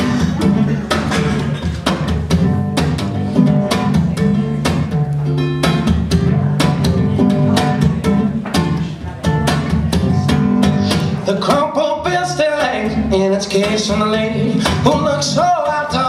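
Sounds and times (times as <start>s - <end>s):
acoustic guitar playing: 0.0s - 16.0s
percussive beat: 0.0s - 16.0s.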